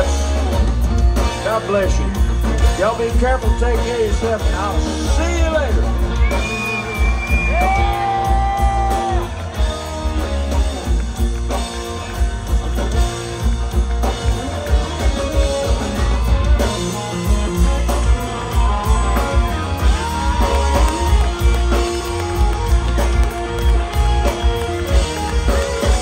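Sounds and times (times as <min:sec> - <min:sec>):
country band playing: 0:00.0 - 0:26.0
sliding lead guitar notes: 0:00.0 - 0:26.0.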